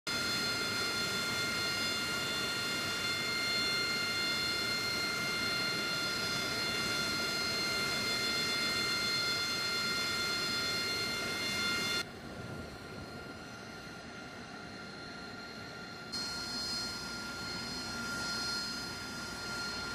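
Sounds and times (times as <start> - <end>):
jet engine idling: 0.1 - 19.9.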